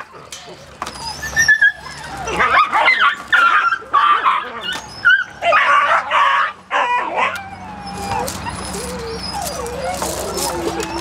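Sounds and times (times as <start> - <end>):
puppy barking and yipping: 1.0 - 11.0.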